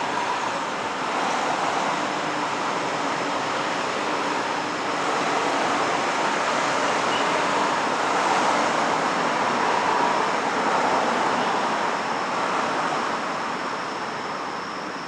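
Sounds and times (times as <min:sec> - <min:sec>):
road traffic rush: 0:00.0 - 0:14.5.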